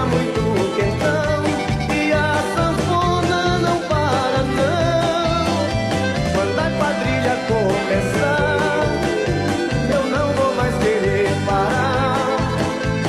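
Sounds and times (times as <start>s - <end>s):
lively music with bass beat: 0.0s - 13.0s.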